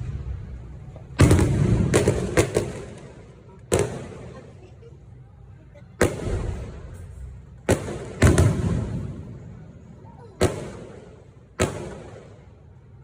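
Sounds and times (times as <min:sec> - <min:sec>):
fireworks bangs with echo: 0:00.0 - 0:04.6, 0:06.0 - 0:13.0.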